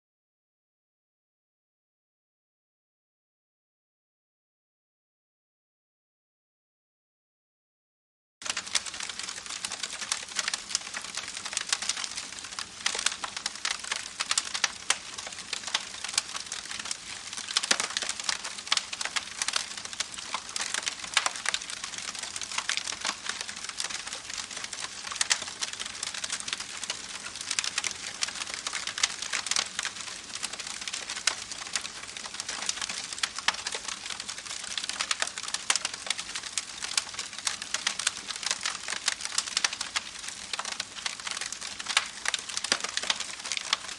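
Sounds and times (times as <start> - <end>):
campfire crackling and popping: 8.4 - 43.9.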